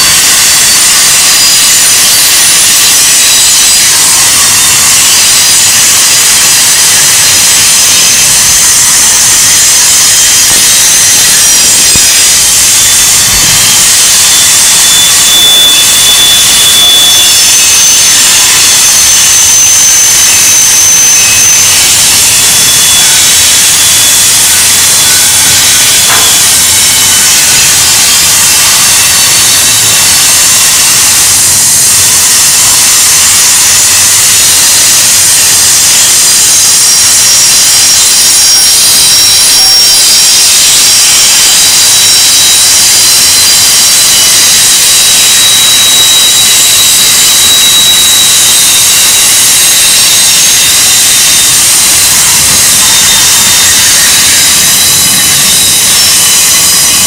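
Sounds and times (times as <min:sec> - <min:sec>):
train wheels screeching on rail: 0:00.0 - 0:57.0.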